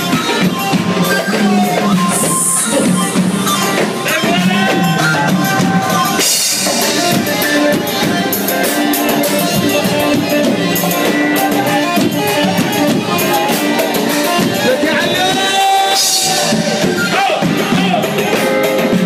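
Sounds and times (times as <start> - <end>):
electronic keyboard melody: 0.0 - 19.0
steady drum beat: 0.0 - 19.0.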